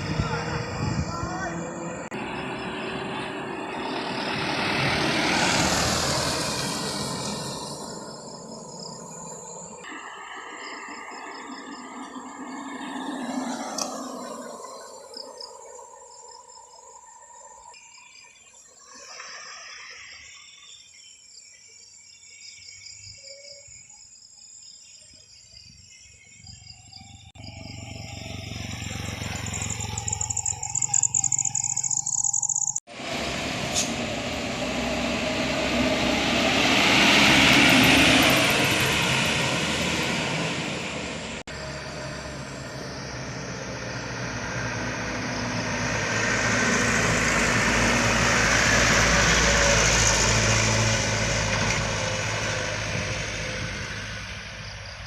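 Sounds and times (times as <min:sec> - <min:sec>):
traffic engine noise: 0:00.0 - 0:17.7, 0:26.7 - 0:55.0
vehicle passing with tyre noise: 0:00.0 - 0:20.9, 0:26.3 - 0:55.0.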